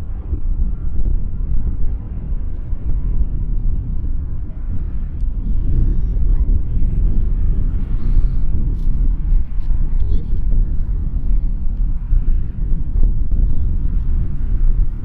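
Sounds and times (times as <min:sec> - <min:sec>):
jet aircraft noise: 0:00.0 - 0:15.0
wind on microphone: 0:00.0 - 0:15.0.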